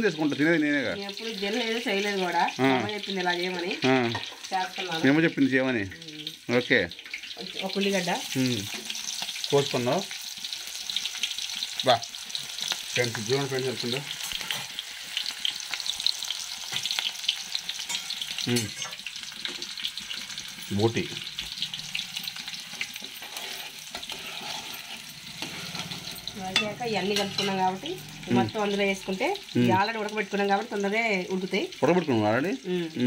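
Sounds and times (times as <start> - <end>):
meat frying in hot oil: 0.0 - 33.0.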